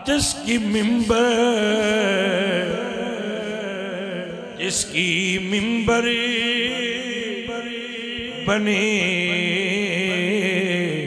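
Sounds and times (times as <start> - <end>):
man chanting: 0.0 - 11.0.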